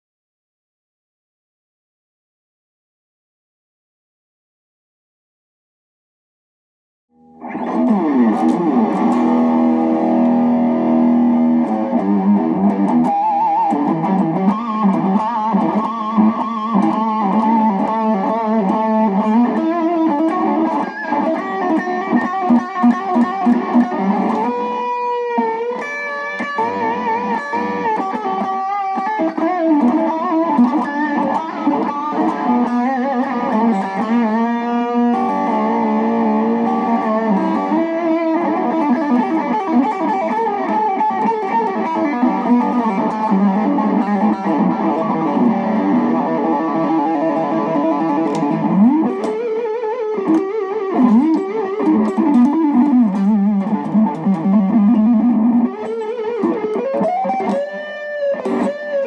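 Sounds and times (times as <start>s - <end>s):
electric guitar lead line: 7.1s - 59.0s.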